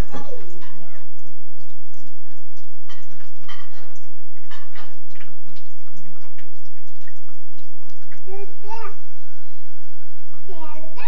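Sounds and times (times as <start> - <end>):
bathwater splashing: 0.0 - 8.9.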